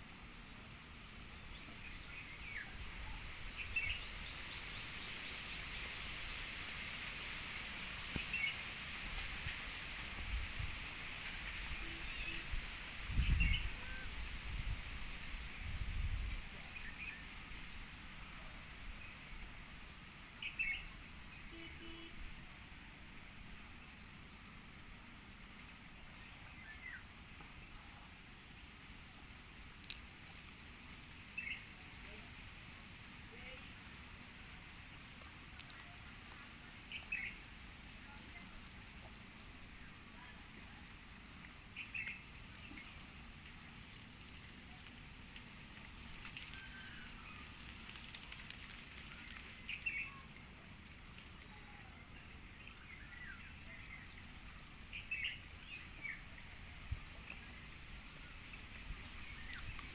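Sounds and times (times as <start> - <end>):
steady hiss: 0.0 - 59.9
small birds chirping: 8.0 - 59.9.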